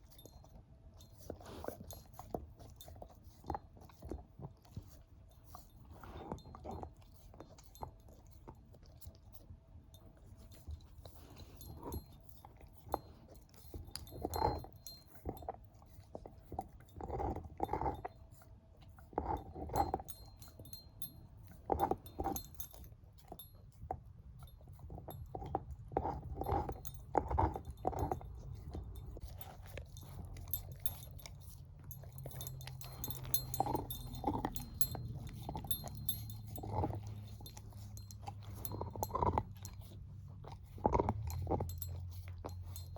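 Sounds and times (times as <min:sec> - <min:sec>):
dog gnawing a bone: 0:00.0 - 0:42.9.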